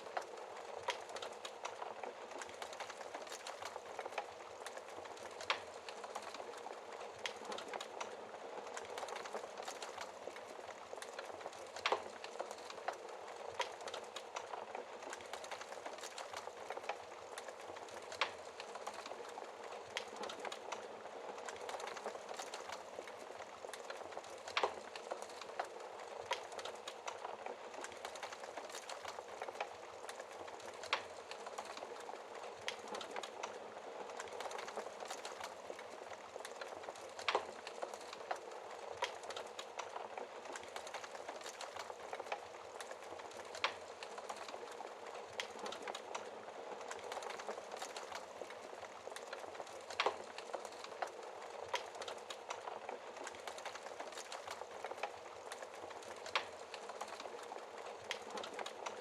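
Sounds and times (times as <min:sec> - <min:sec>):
wood fire hissing: 0:00.0 - 0:59.0
burning wood popping: 0:00.1 - 0:59.0.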